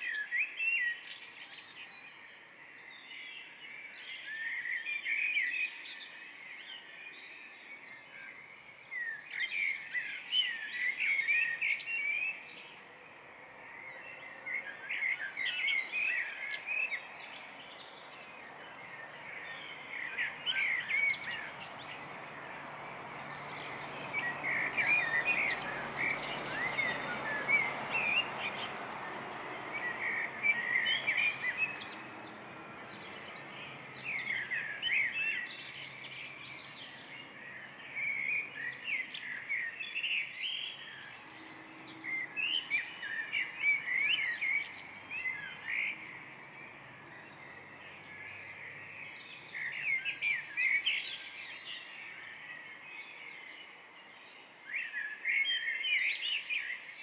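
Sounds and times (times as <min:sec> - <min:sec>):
songbirds twittering: 0:00.0 - 0:57.0
steady low background noise: 0:00.0 - 0:57.0.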